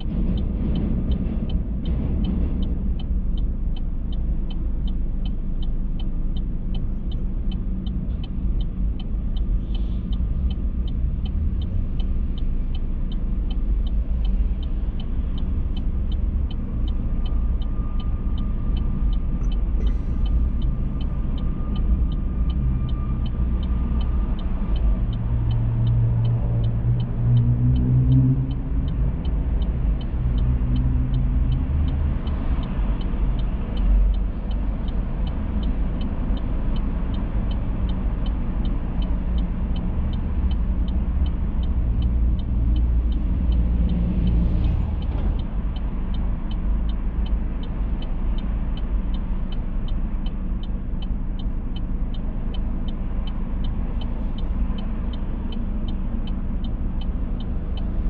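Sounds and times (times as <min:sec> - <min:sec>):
car road and engine rumble: 0:00.0 - 0:58.0
faint regular tick: 0:00.3 - 0:58.0.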